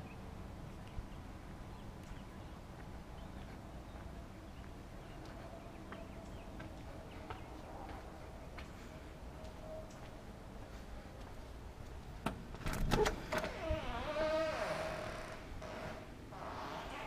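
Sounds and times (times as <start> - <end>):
footsteps on porch steps: 0.8 - 17.0.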